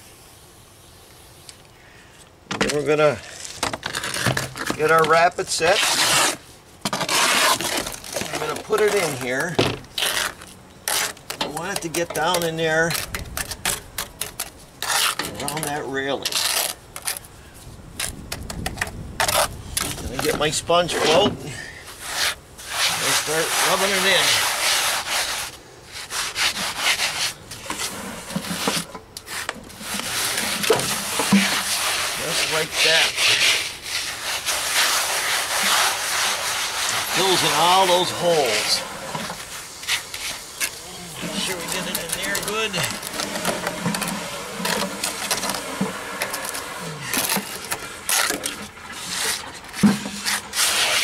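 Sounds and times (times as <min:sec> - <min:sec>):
sponge float rubbing gritty mortar: 0:03.4 - 0:17.3, 0:19.2 - 0:51.0.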